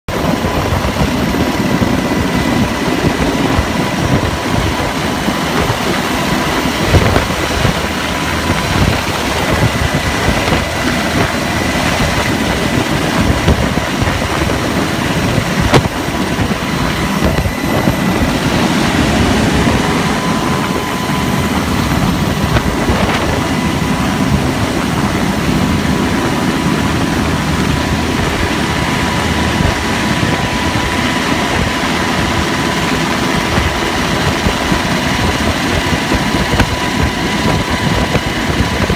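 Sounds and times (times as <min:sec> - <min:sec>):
helicopter rotor and engine noise: 0:00.1 - 0:38.9
high whine: 0:00.1 - 0:38.9.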